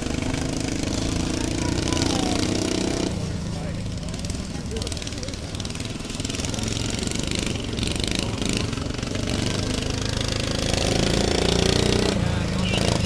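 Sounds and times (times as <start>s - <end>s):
lawn tractor engines racing: 0.0s - 13.0s.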